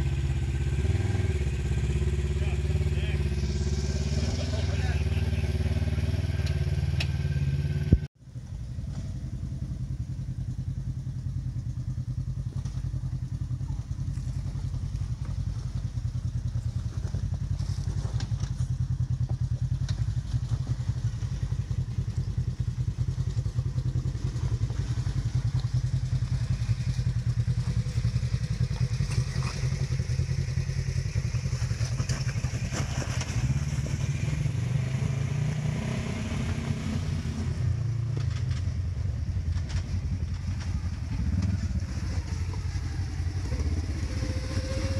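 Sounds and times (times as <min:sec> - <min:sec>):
engine running low under load: 0:00.0 - 0:44.9.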